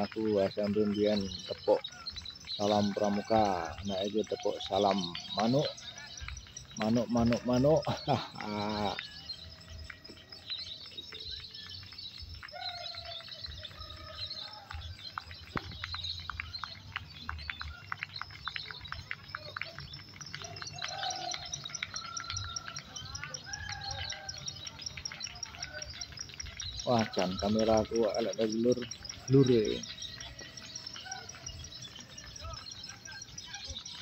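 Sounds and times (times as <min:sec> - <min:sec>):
lovebirds chirping and trilling: 0:00.0 - 0:34.0
spectators calling out: 0:00.0 - 0:34.0.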